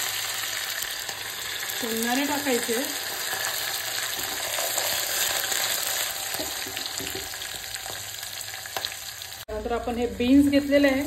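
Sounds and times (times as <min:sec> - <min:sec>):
peanuts frying in hot oil: 0:00.0 - 0:11.0.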